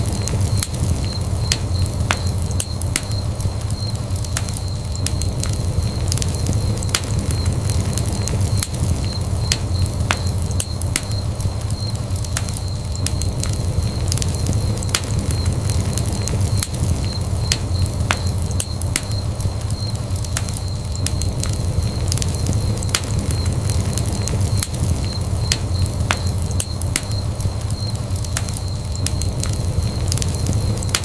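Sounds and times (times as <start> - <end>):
fire crackling in fireplace: 0.0 - 31.0.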